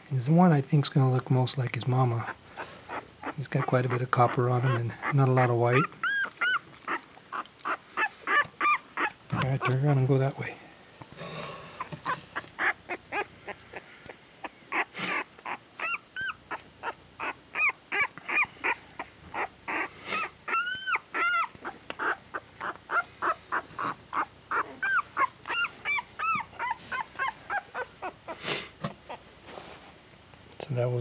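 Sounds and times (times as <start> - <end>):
puppy squealing and whimpering: 2.0 - 10.1, 11.8 - 13.8, 14.4 - 29.3.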